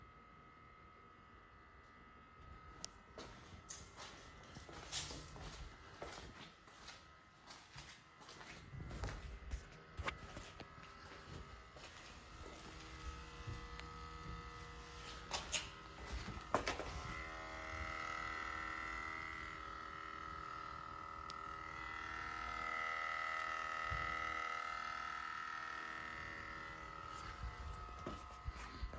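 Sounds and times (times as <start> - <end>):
electric hum with overtones: 0.0 - 28.9.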